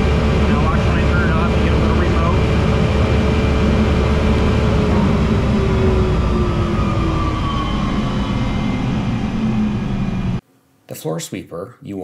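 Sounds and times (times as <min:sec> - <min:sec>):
dust collector winding down: 0:00.0 - 0:10.4.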